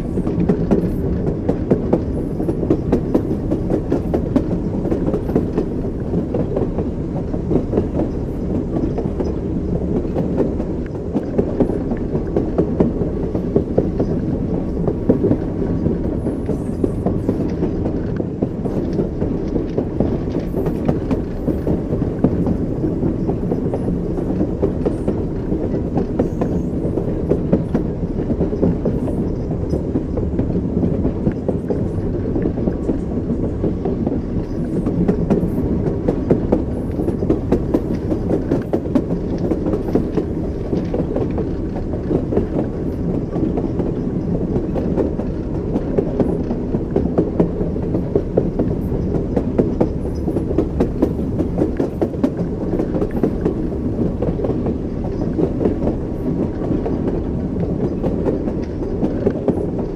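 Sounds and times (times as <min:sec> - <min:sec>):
moving train rumble: 0:00.0 - 0:59.9
train wheels clattering on rails: 0:00.0 - 0:59.9.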